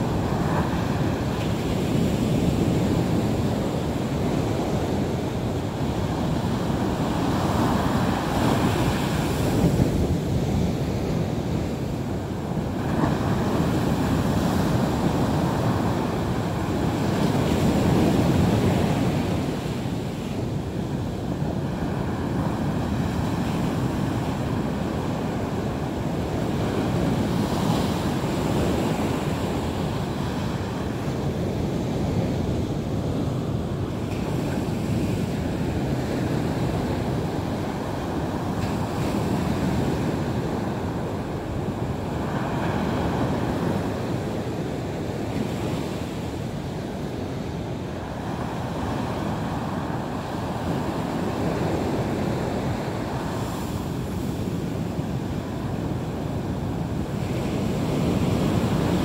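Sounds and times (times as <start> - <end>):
sea waves breaking on shore: 0.0 - 59.0.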